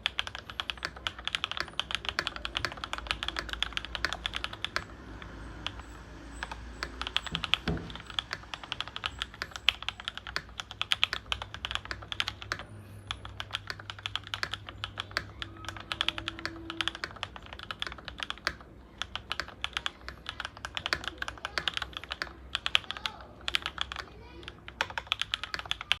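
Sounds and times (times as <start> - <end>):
fast typing on mechanical keyboard: 0.0 - 26.0.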